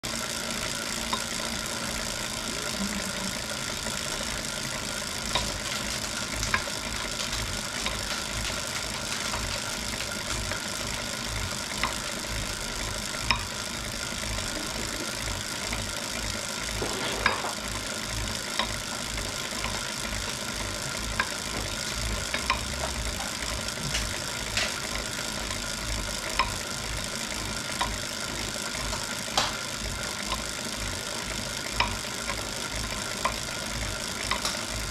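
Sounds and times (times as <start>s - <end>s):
smart trainer whirring: 0.0s - 34.9s.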